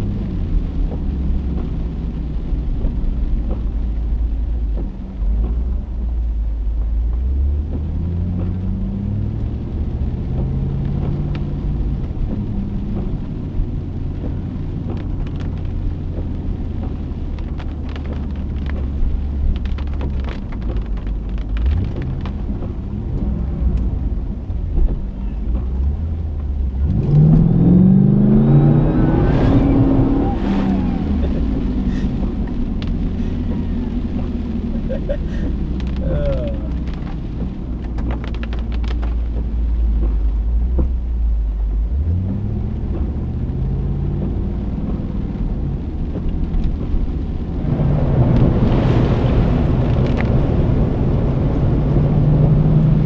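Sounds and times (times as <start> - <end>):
car engine and road rumble: 0.0 - 53.0
car ploughing through deep water: 0.0 - 53.0.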